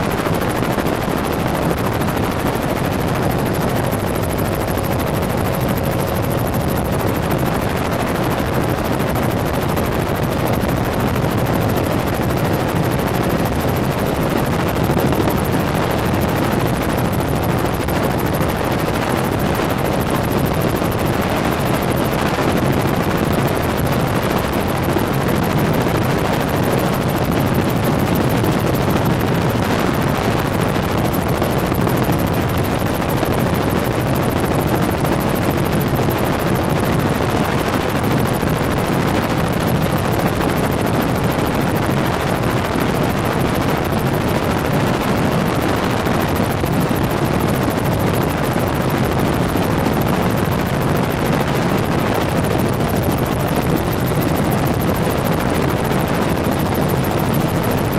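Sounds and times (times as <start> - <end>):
helicopter engine and rotor drone: 0.0 - 57.9.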